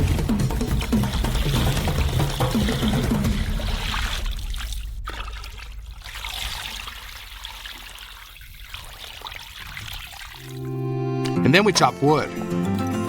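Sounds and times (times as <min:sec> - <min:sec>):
water pouring into a pot: 0:00.0 - 0:10.8.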